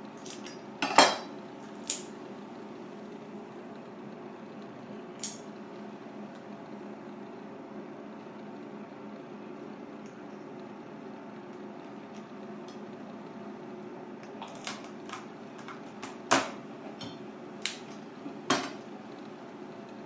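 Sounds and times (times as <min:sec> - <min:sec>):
background hum: 0:00.0 - 0:20.0.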